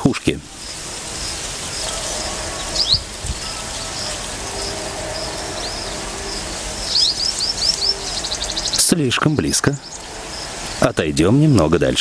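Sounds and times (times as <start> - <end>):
outdoor hiss: 0.0 - 12.0
wild birds chirping: 0.0 - 12.0.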